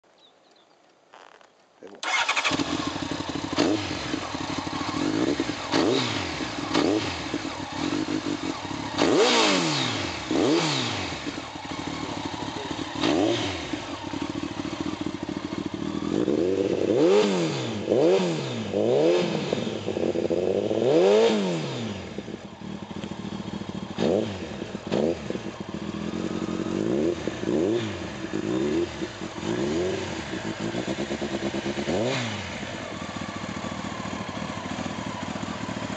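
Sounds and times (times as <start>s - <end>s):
motorcycle engine idling and revving: 2.0s - 35.9s.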